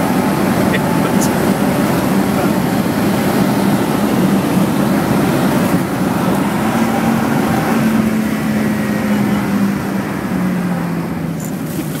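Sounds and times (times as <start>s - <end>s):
car engine and exhaust drone: 0.0s - 12.0s.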